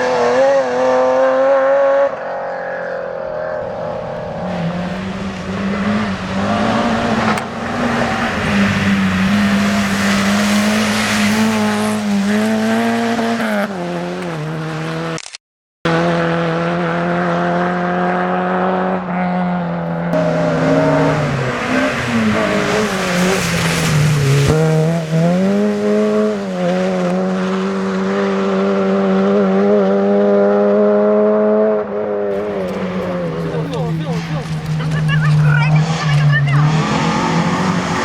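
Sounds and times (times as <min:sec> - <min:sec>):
rally car engine revving: 0:00.0 - 0:15.2, 0:15.9 - 0:38.0.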